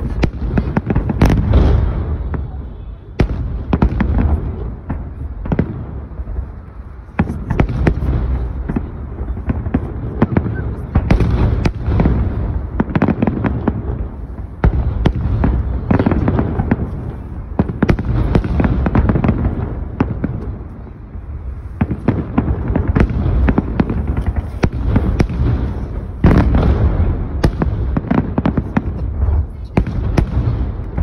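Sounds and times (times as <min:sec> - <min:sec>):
constant low rumble: 0:00.0 - 0:31.0
fireworks booming and crackling: 0:00.0 - 0:31.0.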